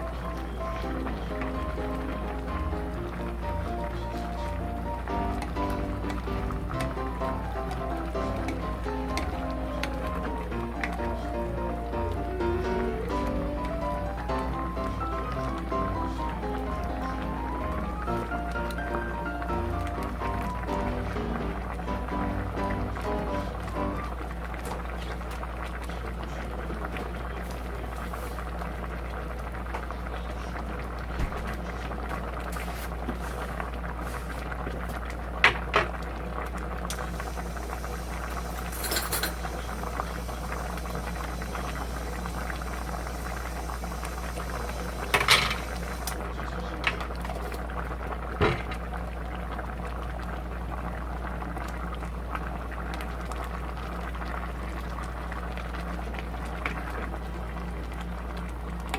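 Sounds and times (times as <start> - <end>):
stew bubbling at a boil: 0.0 - 58.9.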